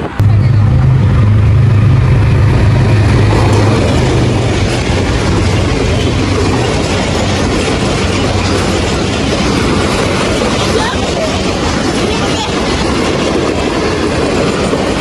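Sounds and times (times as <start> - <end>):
diesel locomotive engine hum: 0.0 - 15.0
train wheels on rails: 0.0 - 15.0.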